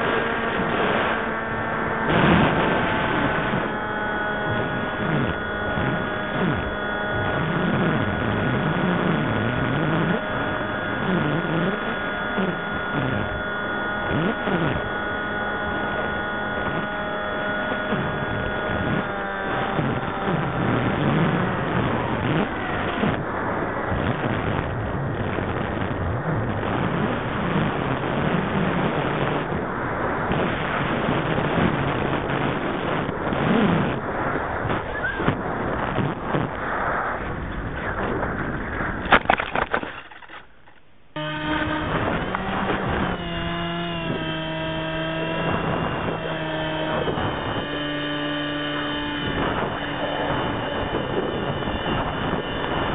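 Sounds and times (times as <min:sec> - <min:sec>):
model aircraft motor and propeller: 0:00.0 - 0:35.4, 0:39.2 - 0:52.9
steady high whine: 0:00.0 - 0:52.9
wind noise: 0:00.0 - 0:52.9.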